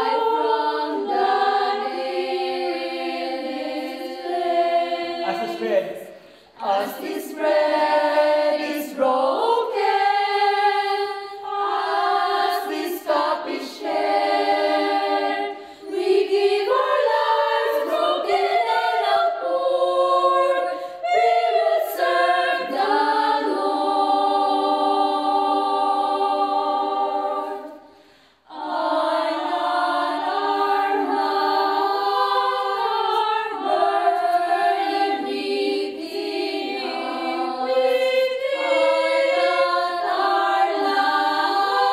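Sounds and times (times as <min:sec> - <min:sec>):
women's choir singing a cappella: 0:00.0 - 0:41.9.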